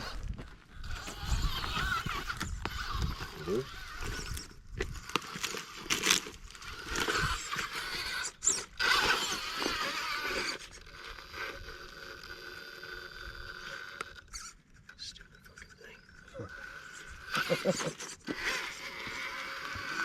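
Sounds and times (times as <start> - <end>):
tyres scraping and grinding on rock: 0.0 - 14.5, 16.4 - 20.0
electric motor whine: 0.0 - 14.6, 16.2 - 20.0.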